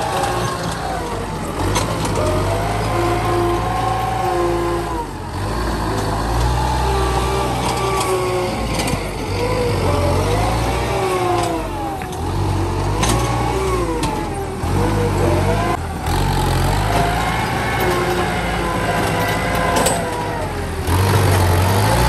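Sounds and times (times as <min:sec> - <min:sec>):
tractor engine working: 0:00.0 - 0:22.0.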